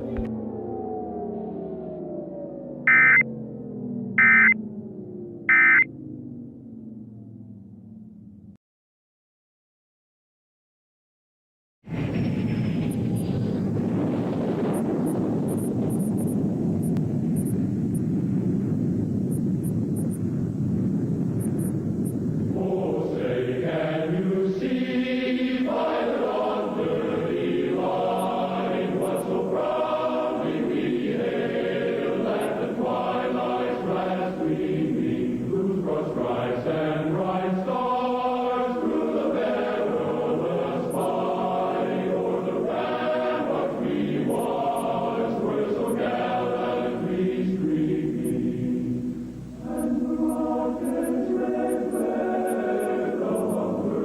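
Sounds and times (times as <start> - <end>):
choir singing sustained chords: 0.0 - 8.0, 12.0 - 54.0.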